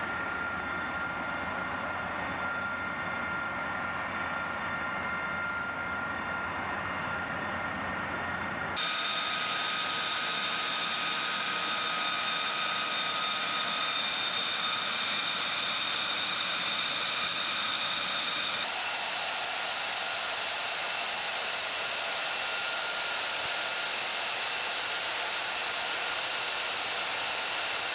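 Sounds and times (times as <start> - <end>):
jet engine whine and hiss: 0.0 - 27.9.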